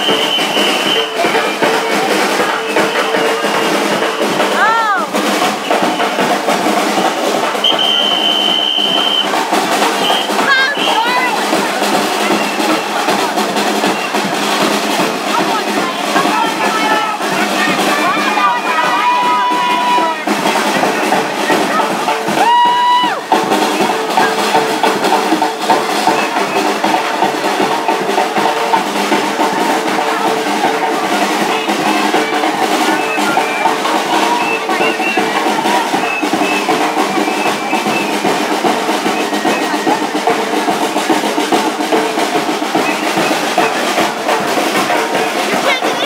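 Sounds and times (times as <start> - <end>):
bass drum: 0.0 - 46.0
snare drums rattling in rolls: 0.0 - 46.0.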